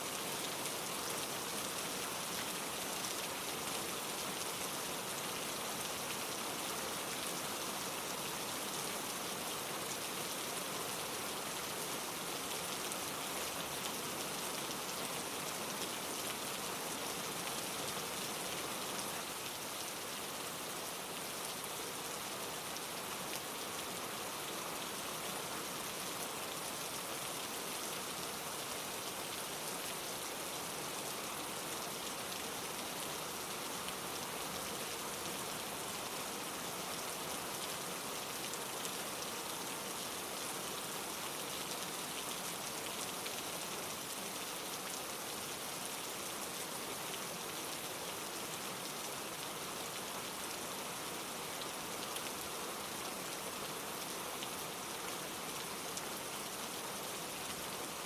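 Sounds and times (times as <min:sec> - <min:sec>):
rain pattering on leaves: 0:00.1 - 0:58.0.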